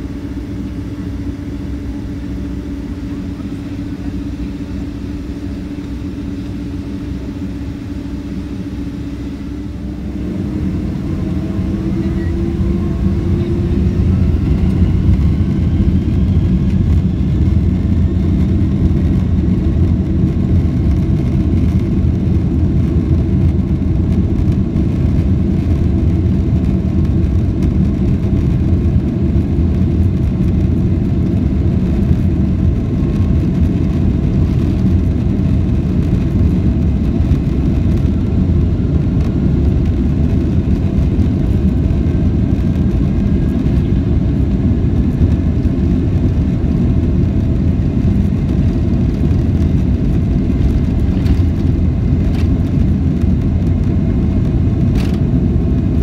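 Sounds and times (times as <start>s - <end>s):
faint engine whine: 0.0s - 56.0s
jet engine rumble in cabin: 0.0s - 56.0s.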